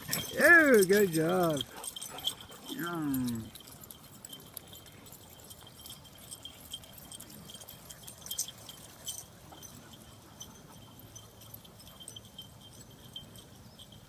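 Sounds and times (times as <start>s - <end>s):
light metallic jingling: 0.0s - 14.0s.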